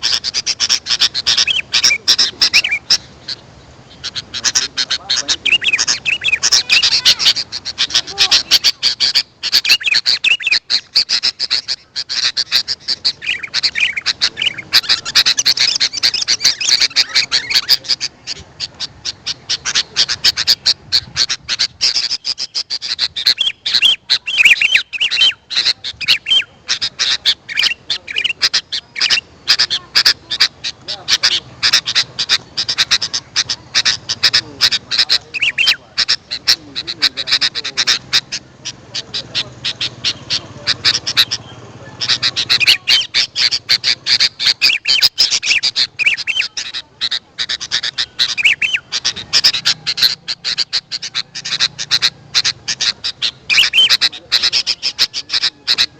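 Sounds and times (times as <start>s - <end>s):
bulbuls chirping: 0.0s - 55.9s.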